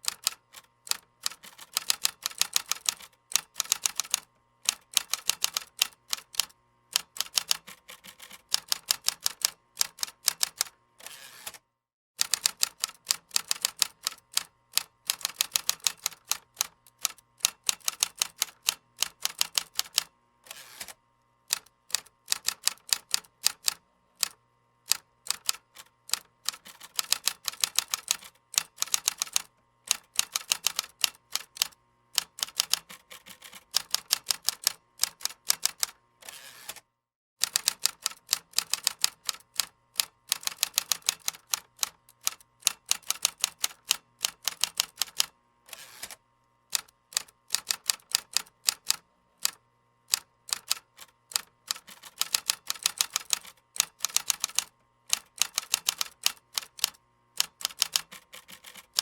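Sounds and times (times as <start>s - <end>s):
computer keyboard typing: 0.0s - 10.7s, 12.2s - 20.1s, 21.5s - 36.0s, 37.4s - 45.3s, 46.7s - 59.0s.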